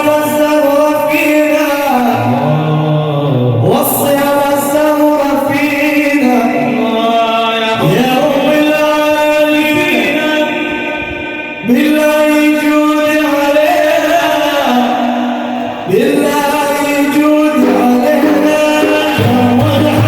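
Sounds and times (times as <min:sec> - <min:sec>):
devotional singing in long notes: 0:02.2 - 0:20.0.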